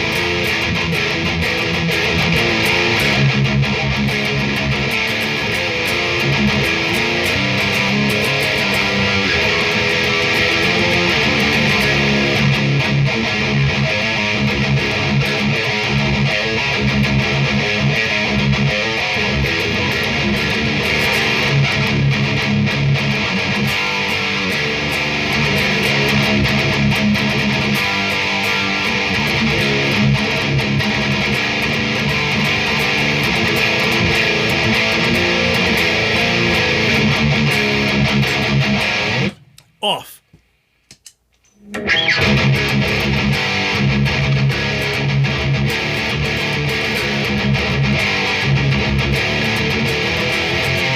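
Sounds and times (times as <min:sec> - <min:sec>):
distorted electric guitar riffs: 0:00.0 - 0:40.1, 0:41.7 - 0:50.9.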